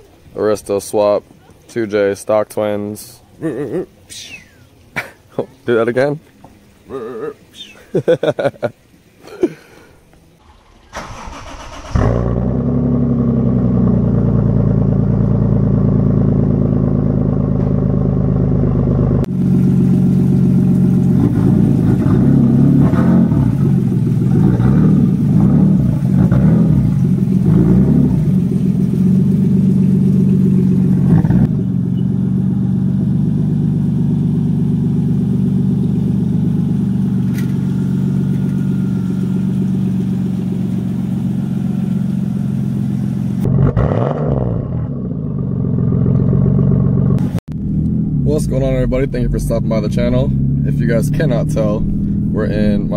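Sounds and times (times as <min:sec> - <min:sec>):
car engine cranking and idling: 0:10.1 - 0:52.9
car engine revving: 0:10.4 - 0:52.9.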